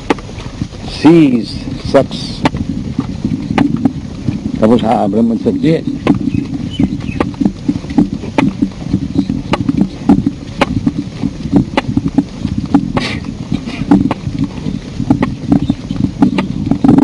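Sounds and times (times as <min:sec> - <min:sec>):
footsteps of group walking: 0:00.0 - 0:17.0
steady low rumble: 0:00.0 - 0:17.0.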